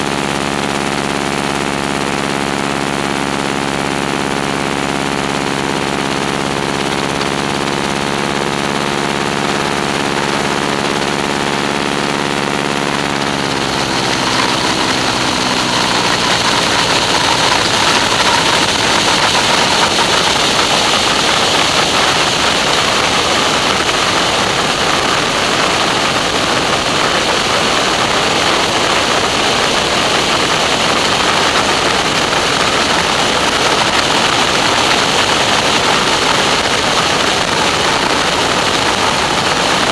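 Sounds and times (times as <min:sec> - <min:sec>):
biplane engine droning: 0:00.0 - 0:39.9
wind rushing over microphone: 0:00.2 - 0:39.9.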